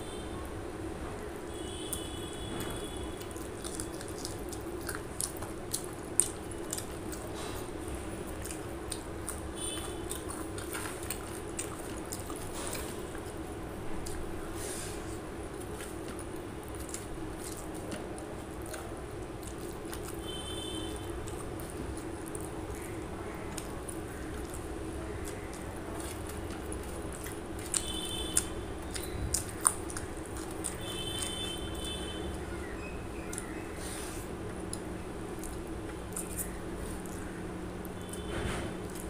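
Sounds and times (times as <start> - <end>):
steady low hum: 0.0 - 39.0
wet chewing: 1.6 - 39.0.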